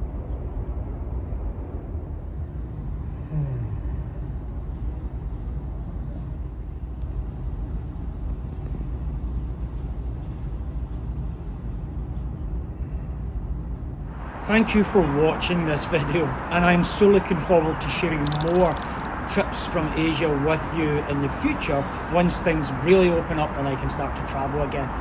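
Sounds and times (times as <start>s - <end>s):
high-speed train rumble inside carriage: 0.0s - 25.0s.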